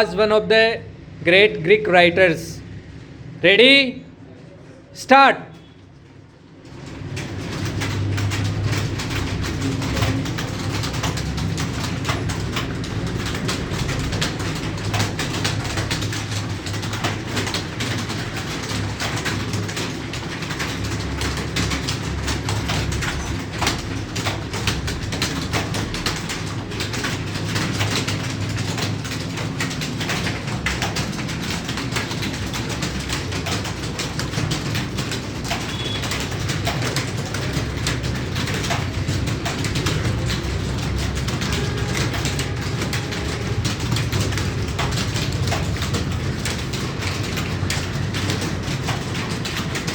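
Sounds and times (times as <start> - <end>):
keyboard typing: 0.0 - 4.1, 5.0 - 49.9.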